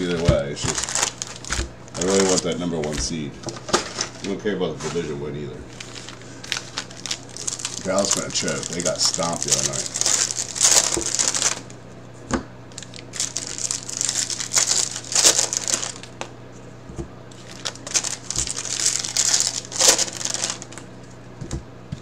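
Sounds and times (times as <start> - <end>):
foil wrapper crinkling: 0.0 - 4.4, 5.7 - 11.8, 12.7 - 16.3, 17.3 - 20.9.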